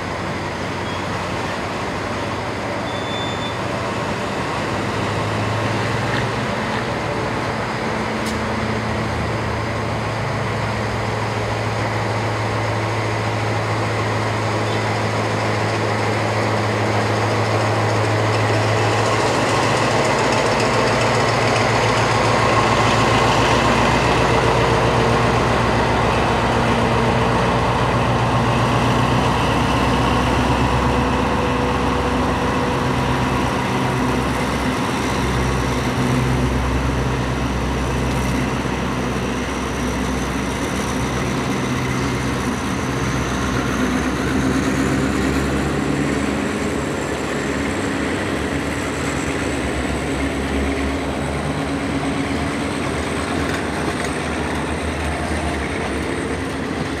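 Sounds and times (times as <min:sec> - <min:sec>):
locomotive diesel engine running: 0:00.0 - 0:57.0
train coaches rolling on rails: 0:00.0 - 0:57.0.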